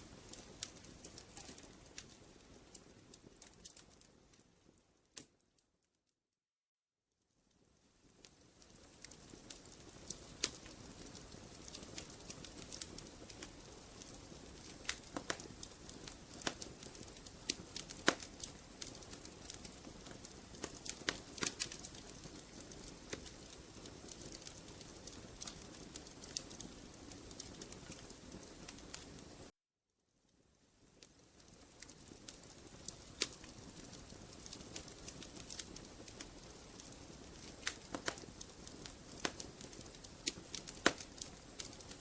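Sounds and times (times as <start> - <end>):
wood fire crackling and popping: 0.0 - 5.4, 7.5 - 29.5, 30.3 - 42.0.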